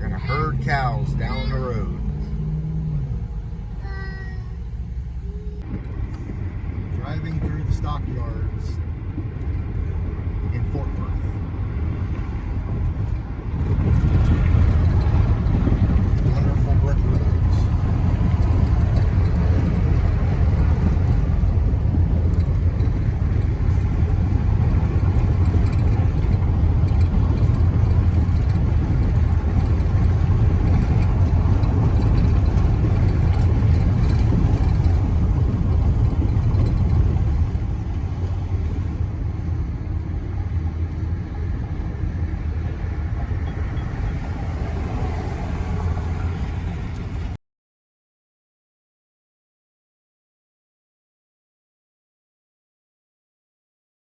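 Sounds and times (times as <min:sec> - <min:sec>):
tyres on brick road: 0:00.0 - 0:47.4
vehicle engine: 0:00.0 - 0:47.4.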